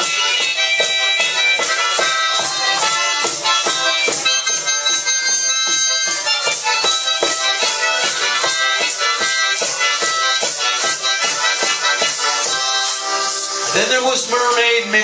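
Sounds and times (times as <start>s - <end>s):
harmonica sustained notes: 0.0s - 15.0s
steady rhythmic beat: 0.0s - 15.0s.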